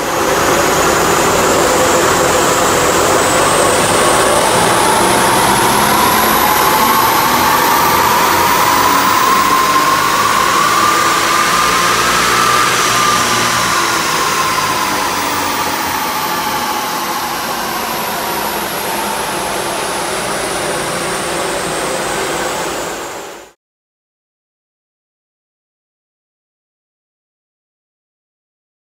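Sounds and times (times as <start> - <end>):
diesel engine revving on dyno: 0.0 - 23.6
whine rising and falling: 0.0 - 23.6.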